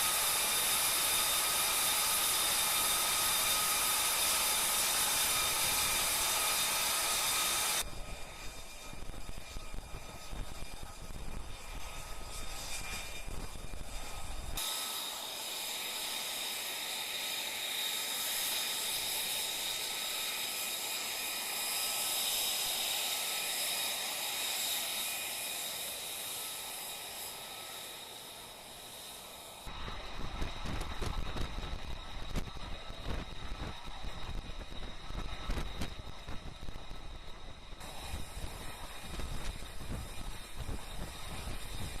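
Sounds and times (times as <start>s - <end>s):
jet engine whistling whine: 0.0s - 42.0s.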